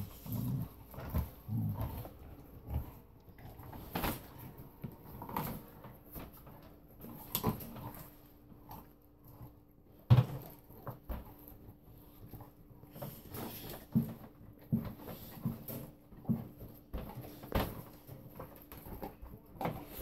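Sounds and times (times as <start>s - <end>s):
dog chewing bone: 0.0s - 19.9s.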